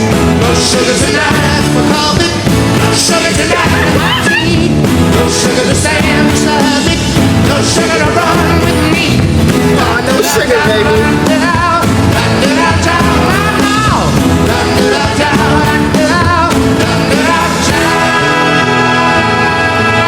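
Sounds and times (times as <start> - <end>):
bass guitar: 0.0 - 20.0
drums and cymbals: 0.0 - 20.0
electric guitar: 0.0 - 20.0
person singing lead vocals: 0.0 - 20.0.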